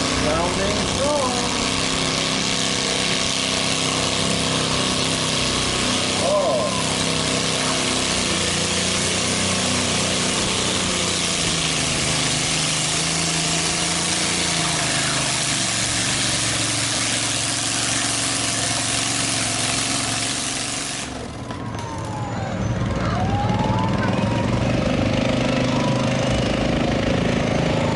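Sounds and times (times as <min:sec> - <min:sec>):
lawn tractor engine under load: 0:00.0 - 0:27.9.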